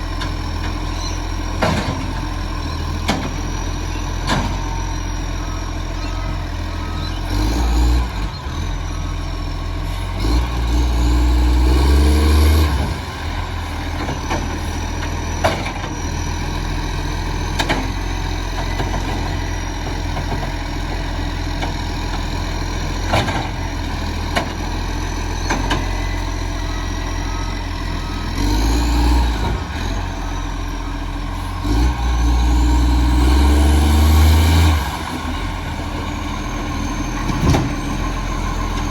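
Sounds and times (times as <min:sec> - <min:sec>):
diesel truck engine idling and revving: 0:00.0 - 0:38.9.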